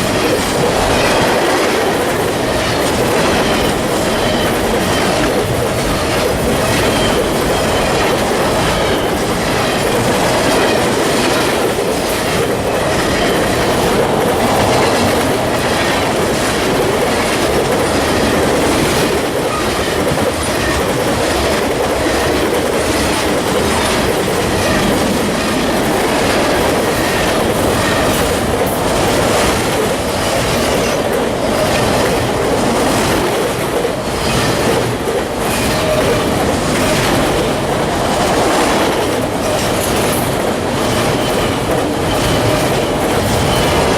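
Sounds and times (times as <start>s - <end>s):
freight train rumbling past: 0.0s - 43.9s
wheels clicking over rail joints: 0.0s - 43.9s.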